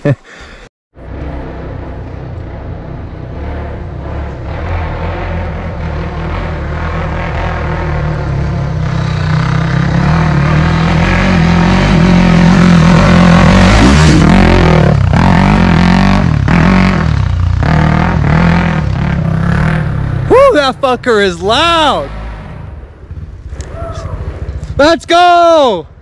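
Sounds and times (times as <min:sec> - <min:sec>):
dirt bike engine revving: 0:01.0 - 0:24.7.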